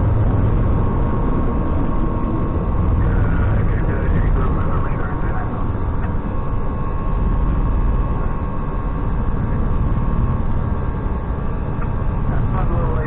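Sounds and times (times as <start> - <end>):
faint steady hum: 0.0 - 13.0
jet engine and airflow rush: 0.0 - 13.0.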